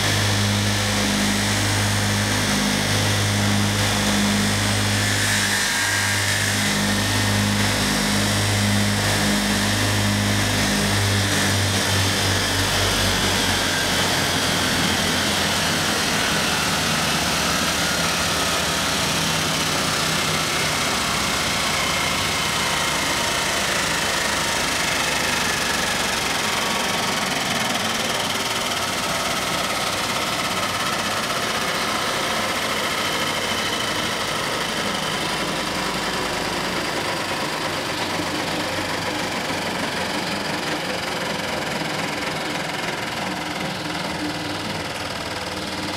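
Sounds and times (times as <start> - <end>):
woodworking machine running: 0.0 - 45.9.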